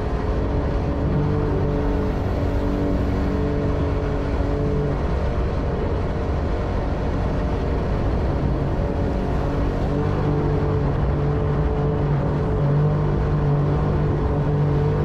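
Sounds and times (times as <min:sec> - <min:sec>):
boat engine droning: 0:00.0 - 0:15.0
wind: 0:00.0 - 0:15.0.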